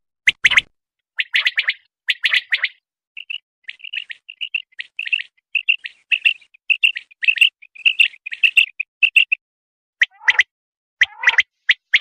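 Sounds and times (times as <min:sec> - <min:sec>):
quail chirping: 0:00.3 - 0:09.4, 0:10.0 - 0:12.0.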